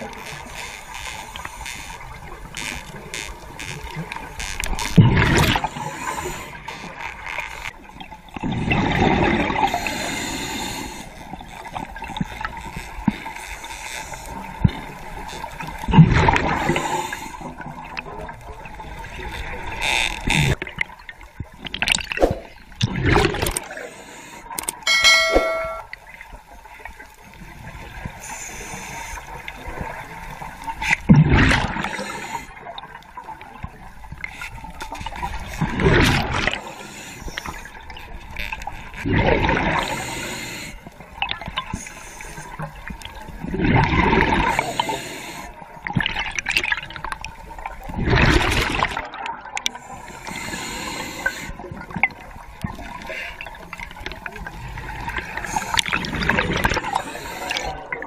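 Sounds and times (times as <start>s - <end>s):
low hiss of water: 0.0s - 20.8s, 26.5s - 45.8s, 49.6s - 58.0s.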